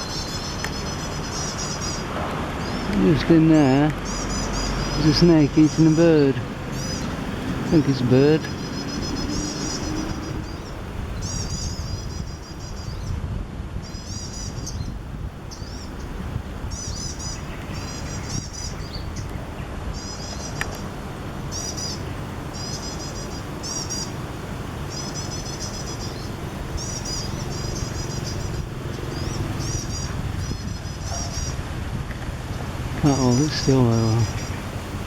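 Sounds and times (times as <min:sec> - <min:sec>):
small birds alarm calls: 0:00.0 - 0:13.2, 0:13.8 - 0:31.7, 0:32.4 - 0:35.0.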